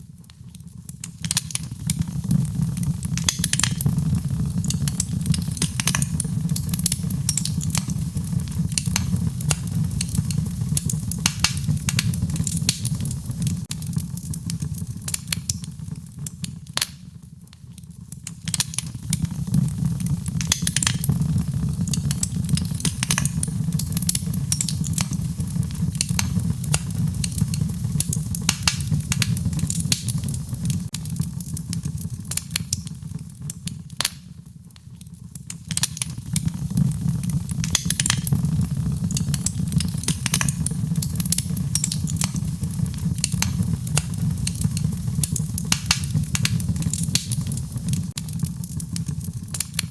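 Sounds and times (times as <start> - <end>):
fire crackling and popping: 0.0 - 49.9
low rumble of fire flames: 0.0 - 49.9.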